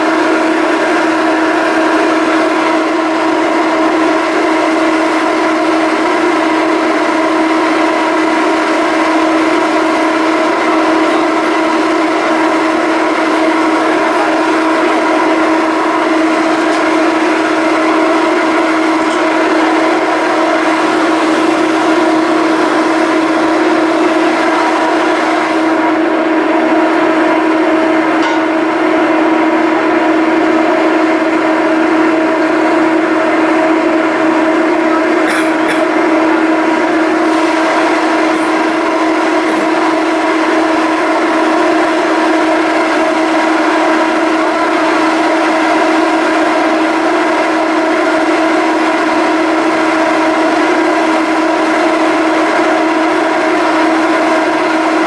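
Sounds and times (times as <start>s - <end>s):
ferry machinery drone: 0.0s - 55.0s.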